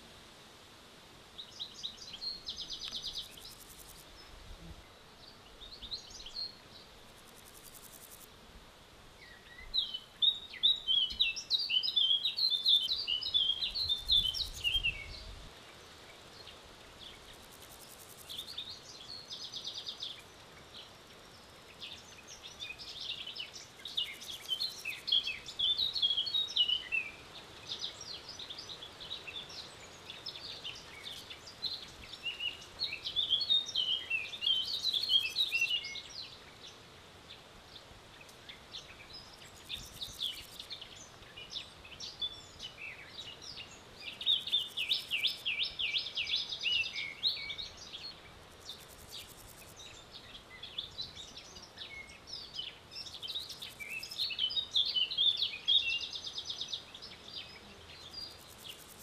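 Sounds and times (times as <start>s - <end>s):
faint background noise: 0.0s - 59.0s
birds chirping song: 1.3s - 8.2s, 9.1s - 59.0s.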